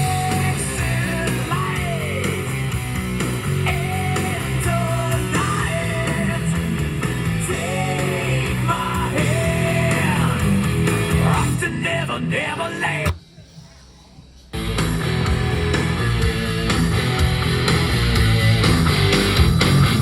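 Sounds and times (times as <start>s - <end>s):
rock music through car speakers: 0.0s - 20.0s.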